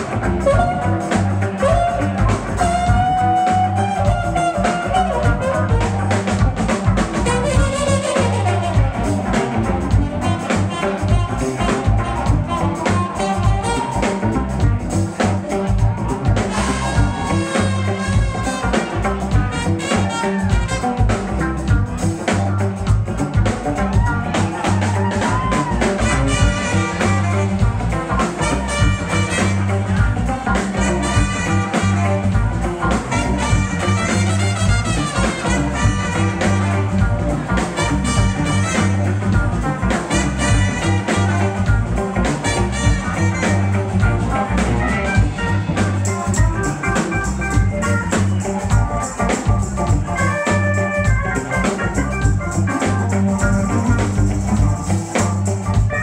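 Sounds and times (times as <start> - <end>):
bass line: 0.0 - 56.0
guitar: 0.0 - 56.0.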